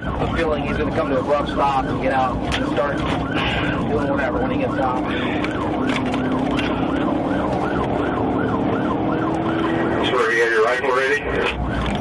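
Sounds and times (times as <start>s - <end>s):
car engine and road noise: 0.0s - 12.0s
police siren: 0.0s - 12.0s.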